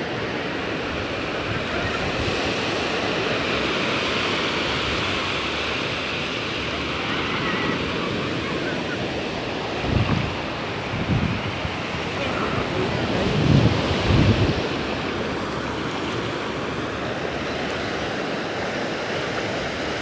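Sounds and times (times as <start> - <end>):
ocean surf breaking: 0.0 - 20.0
wind buffeting microphone: 0.7 - 20.0.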